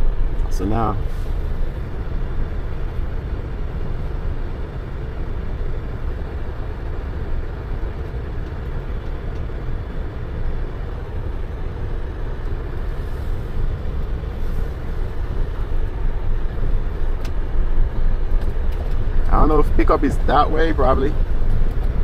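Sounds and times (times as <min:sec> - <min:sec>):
truck engine and road rumble: 0:00.0 - 0:22.0.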